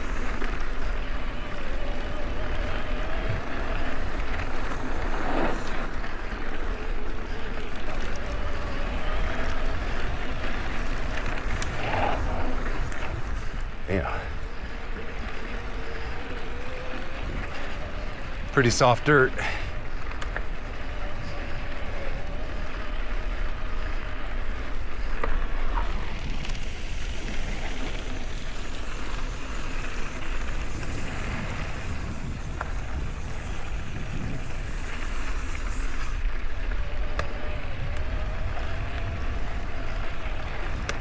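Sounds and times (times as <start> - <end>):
bike clicks and rattles: 0.0 - 41.0
bike tyres rolling on dirt: 0.0 - 41.0
wind buffeting microphone: 0.0 - 41.0.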